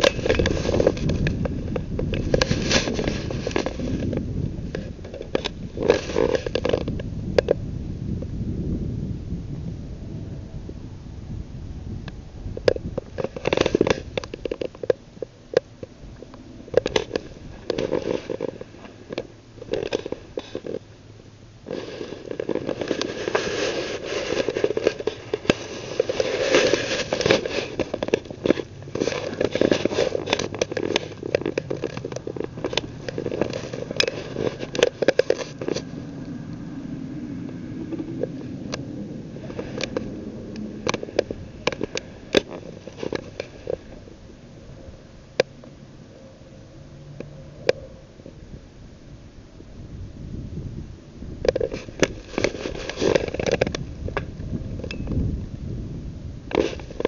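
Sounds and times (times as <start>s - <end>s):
microphone handling noise: 0.0s - 20.9s, 21.6s - 45.8s, 49.8s - 57.0s.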